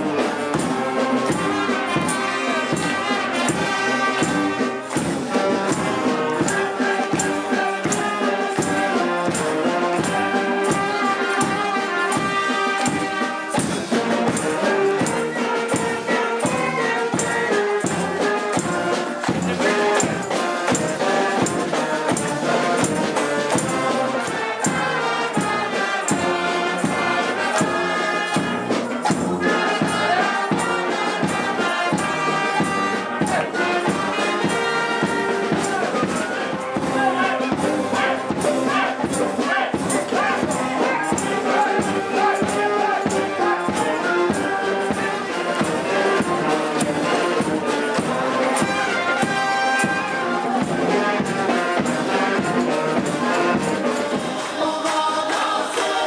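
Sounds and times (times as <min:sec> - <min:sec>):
tambourines jingling: 0:00.0 - 0:54.9
bass and snare drums: 0:00.0 - 0:55.5
brass band playing: 0:00.0 - 0:56.0.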